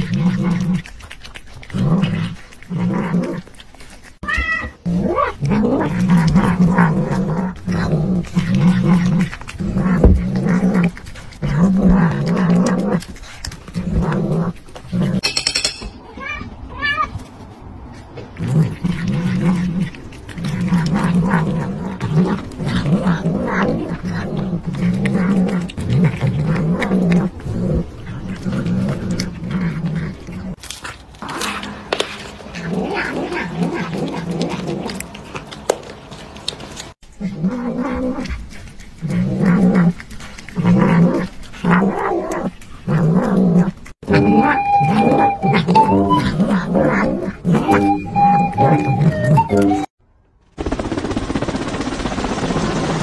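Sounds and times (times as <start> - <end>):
cats growling and meowing: 0.0 - 15.2, 16.0 - 49.9.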